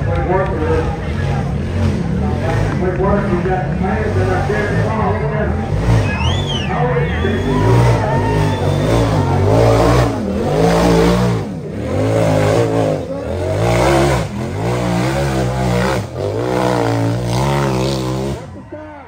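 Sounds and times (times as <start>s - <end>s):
utility vehicle engine revving: 0.0s - 19.0s.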